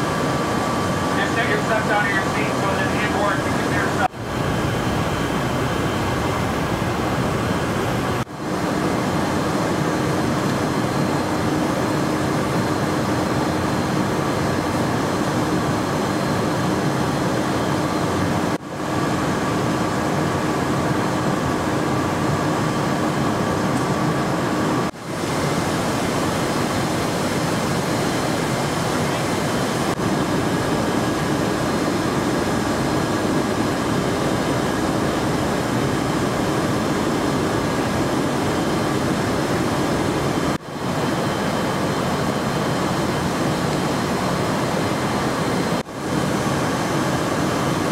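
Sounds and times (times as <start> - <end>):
aircraft cabin drone: 0.0 - 47.9.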